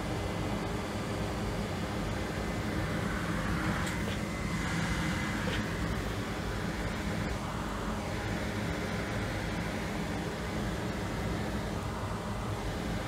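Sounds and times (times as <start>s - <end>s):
machine hum with low drone: 0.0s - 13.0s.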